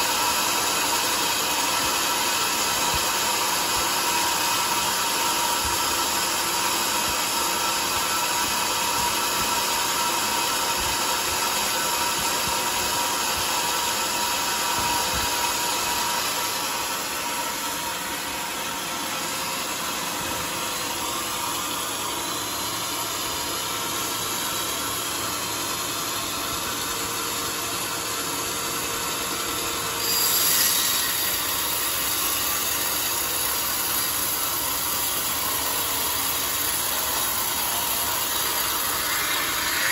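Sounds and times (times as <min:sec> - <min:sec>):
saw blade cutting log: 0:00.0 - 0:22.2, 0:24.2 - 0:39.9
band saw running: 0:00.0 - 0:39.9.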